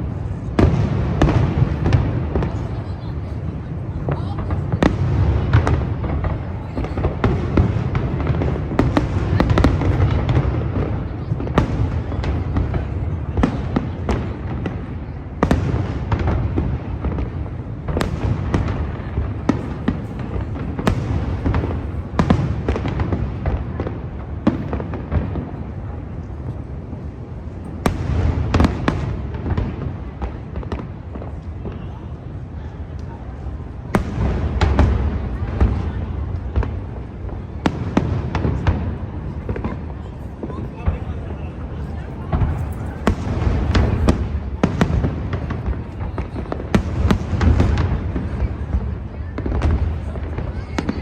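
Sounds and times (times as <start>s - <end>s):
fireworks bursting: 0.0s - 51.0s.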